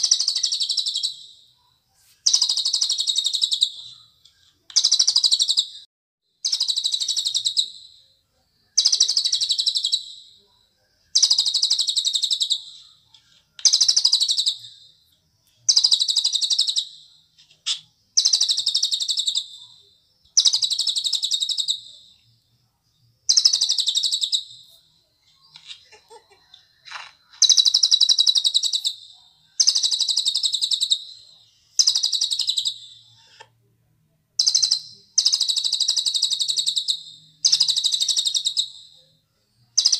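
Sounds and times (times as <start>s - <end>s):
bird singing trilled phrases: 0.0s - 15.0s, 15.6s - 22.4s, 23.0s - 26.6s, 27.3s - 33.4s, 34.4s - 39.9s.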